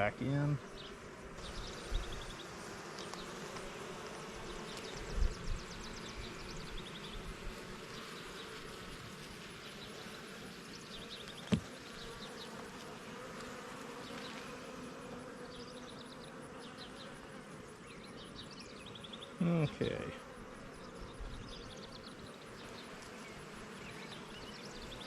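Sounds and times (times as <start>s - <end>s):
honeybee colony buzzing: 0.0s - 25.0s.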